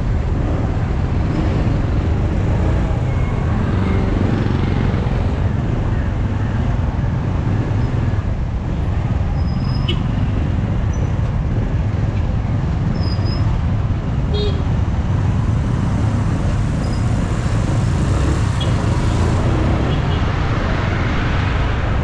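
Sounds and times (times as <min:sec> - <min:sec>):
engines and road noise rumble: 0:00.0 - 0:22.0.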